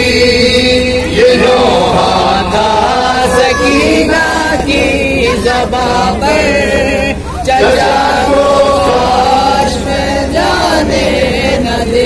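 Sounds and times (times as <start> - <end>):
man singing into a microphone: 0.0 - 10.1
men chanting: 0.0 - 12.0.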